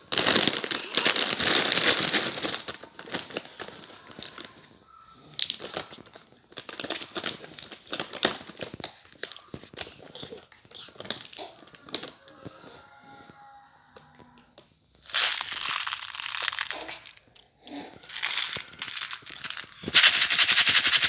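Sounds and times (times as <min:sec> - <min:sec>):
plastic wrappers crinkling: 0:00.0 - 0:13.4, 0:14.0 - 0:21.0.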